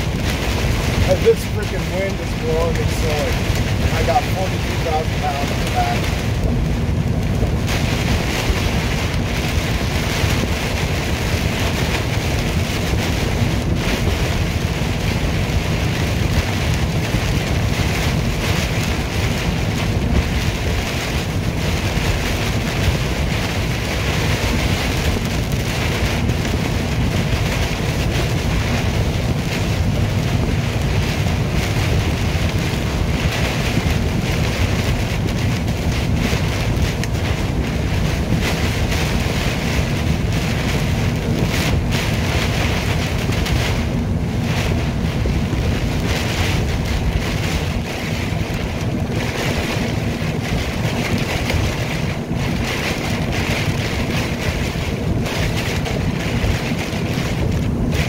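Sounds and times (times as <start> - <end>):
constant low rumble: 0.0 - 58.0
rain on car body: 0.0 - 58.0
tyres on wet pavement: 0.0 - 58.0.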